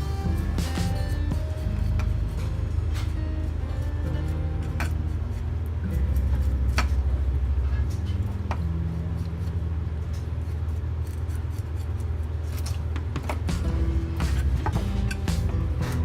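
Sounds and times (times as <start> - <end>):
low background music: 0.0 - 11.8, 13.1 - 16.0.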